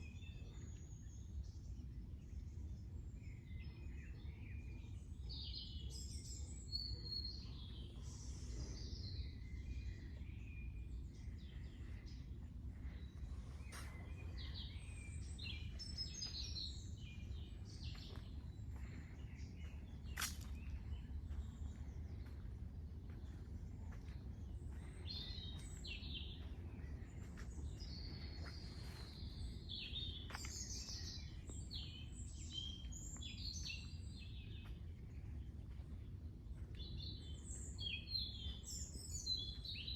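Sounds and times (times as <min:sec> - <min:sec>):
birds singing and chirping: 0:00.0 - 0:39.9
steady low rumble: 0:07.4 - 0:39.9.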